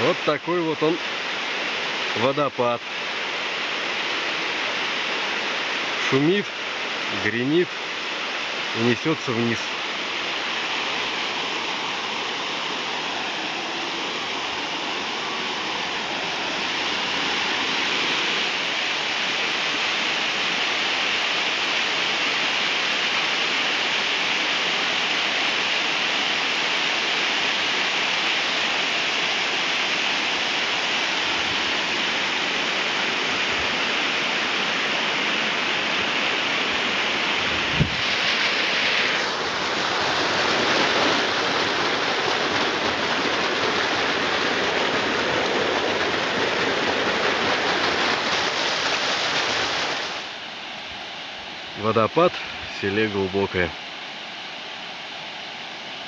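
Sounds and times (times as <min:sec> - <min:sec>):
waterfall onto rocks: 0:00.0 - 0:50.4.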